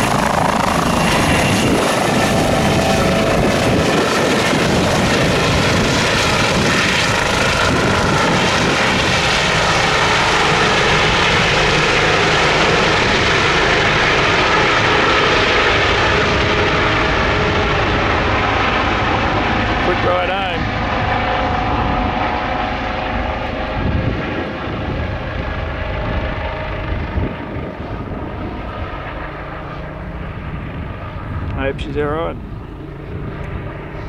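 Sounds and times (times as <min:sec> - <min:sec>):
helicopter rotor and turbine: 0:00.0 - 0:34.0.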